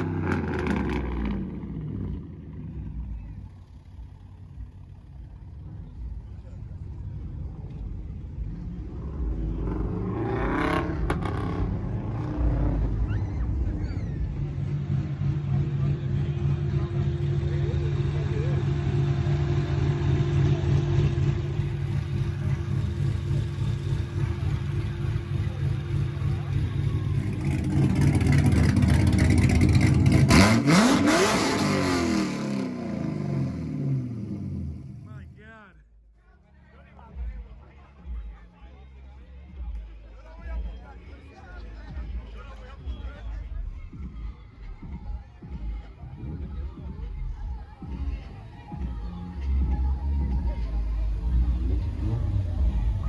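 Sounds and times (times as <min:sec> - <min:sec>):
car engine revving and idling: 0:00.0 - 0:35.6, 0:39.0 - 0:53.0.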